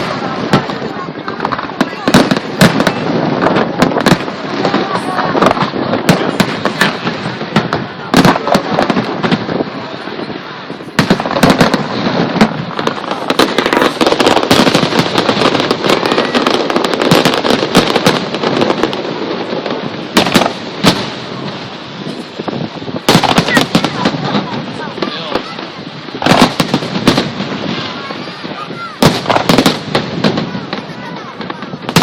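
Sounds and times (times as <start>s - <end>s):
fireworks crackling: 0.0s - 32.0s
fireworks loud bangs: 0.0s - 32.0s.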